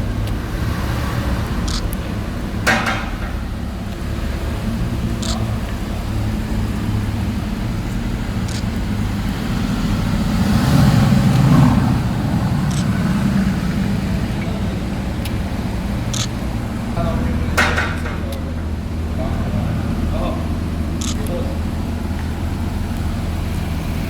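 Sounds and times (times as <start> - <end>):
supercar engine rumbling: 0.0 - 24.0.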